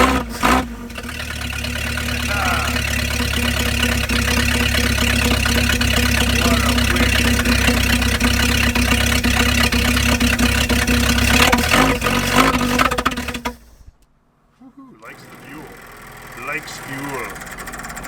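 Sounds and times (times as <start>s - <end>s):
car engine running: 0.0s - 14.1s, 14.9s - 18.0s.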